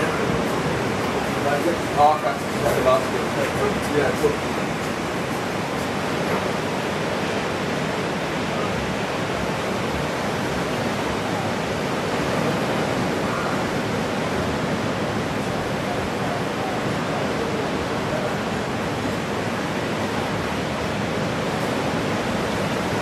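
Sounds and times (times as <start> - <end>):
ocean surf roaring: 0.0 - 23.0.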